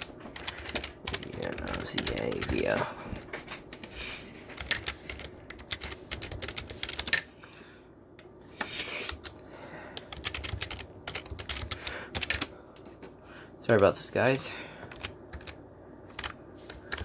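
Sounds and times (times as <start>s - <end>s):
keyboard typing: 0.0s - 7.3s, 8.2s - 9.4s, 10.0s - 13.0s, 14.8s - 17.0s.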